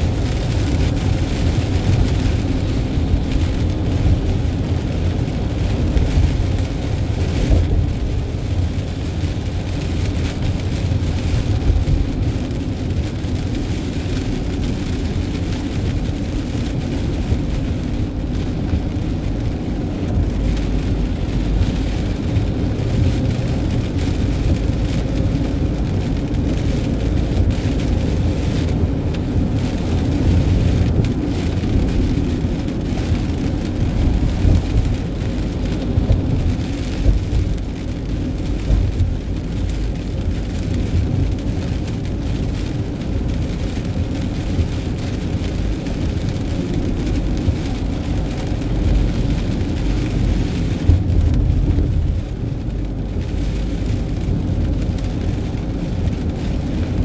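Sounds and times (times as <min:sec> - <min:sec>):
vehicle road rumble: 0:00.0 - 0:57.0.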